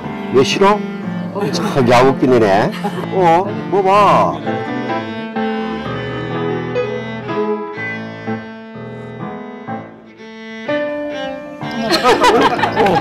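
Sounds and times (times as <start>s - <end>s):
bowed strings: 0.0s - 13.0s
piano: 0.0s - 13.0s.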